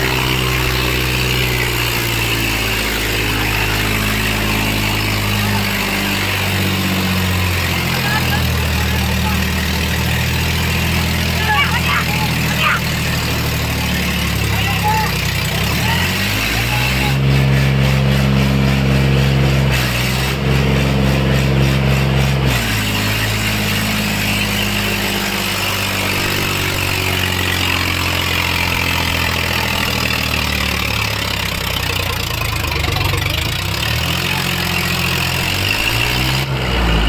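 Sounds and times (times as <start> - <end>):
tractor diesel engine revving: 0.0 - 37.0.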